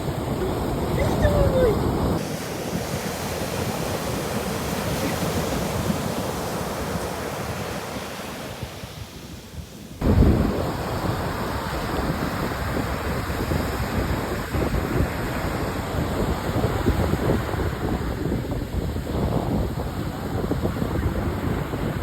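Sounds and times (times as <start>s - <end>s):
ocean surf: 0.0s - 22.0s
wind buffeting the microphone: 0.0s - 22.0s.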